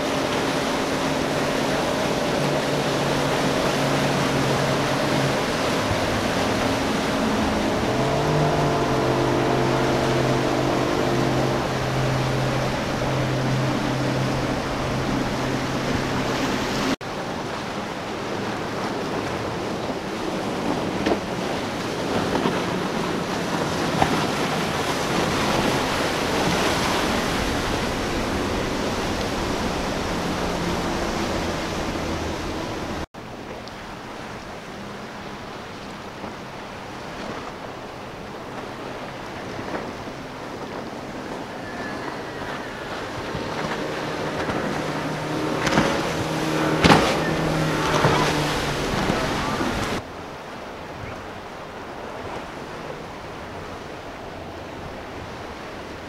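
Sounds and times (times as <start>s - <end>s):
boat engine running at speed: 0.0s - 56.0s
rush of spray and waves: 0.0s - 56.0s
wind: 0.0s - 56.0s.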